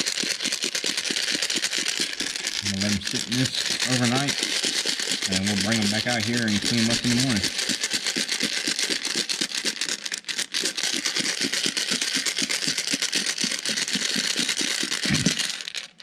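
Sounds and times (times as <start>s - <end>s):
metal parts rattling in shaken cup: 0.0s - 16.0s.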